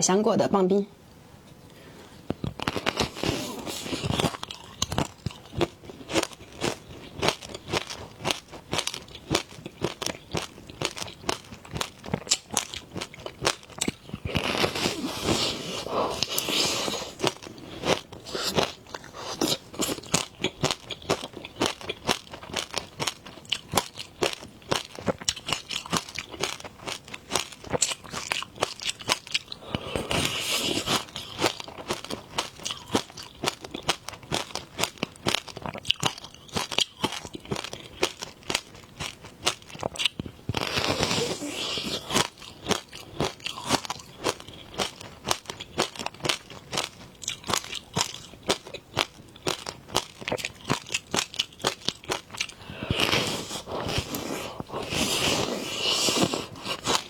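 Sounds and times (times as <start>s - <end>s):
crunchy chewing of ice pop: 2.2s - 57.0s.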